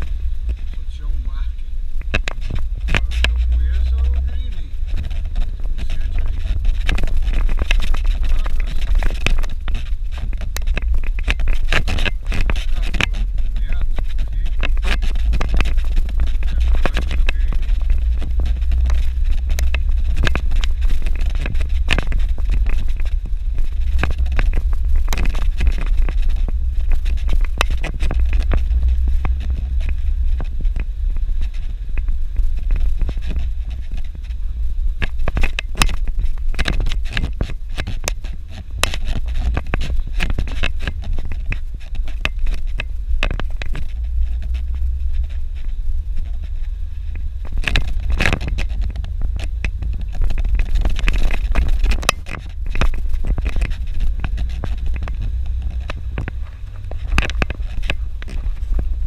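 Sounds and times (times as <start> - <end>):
car engine and road drone: 0.0 - 59.0.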